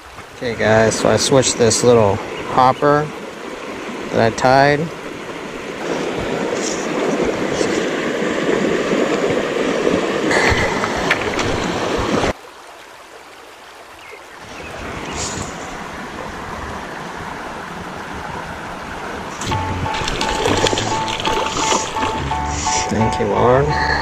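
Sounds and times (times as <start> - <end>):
creek water running over riffle: 0.0 - 23.4
quiet creek flow: 0.0 - 24.0.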